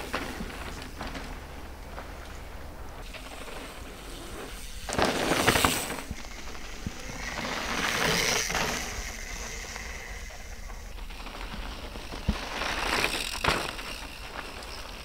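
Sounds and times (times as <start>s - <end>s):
bike tyres crunching over dirt: 0.0s - 15.0s.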